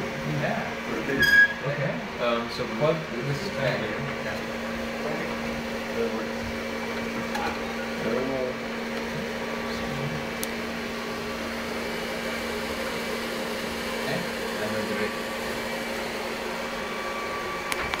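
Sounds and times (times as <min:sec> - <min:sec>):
cooling fans whirring: 0:00.0 - 0:18.0.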